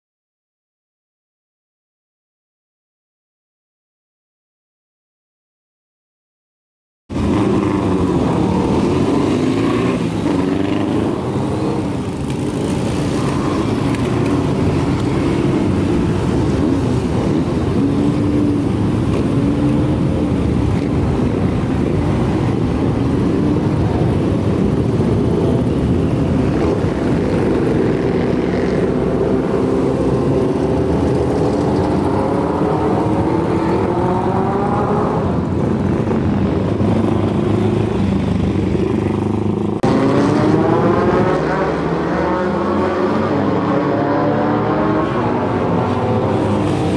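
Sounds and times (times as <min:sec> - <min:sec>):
motorcycle accelerating: 0:07.1 - 0:46.9
motorcycle engines idling and revving: 0:07.1 - 0:46.9.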